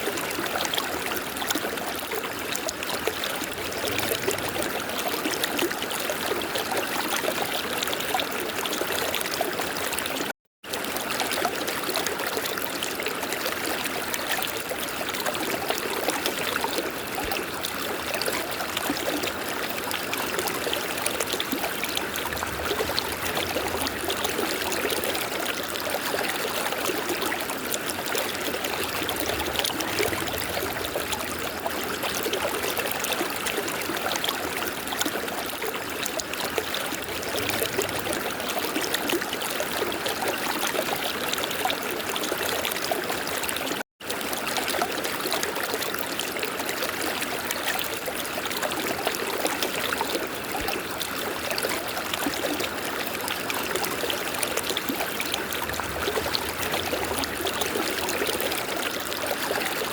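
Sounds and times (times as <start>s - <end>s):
river water flowing: 1.5s - 59.9s.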